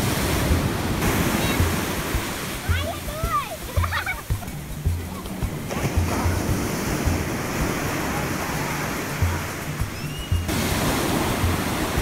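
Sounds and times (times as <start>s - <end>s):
background music bass notes: 0.0s - 12.0s
ocean surf on beach: 0.0s - 12.0s.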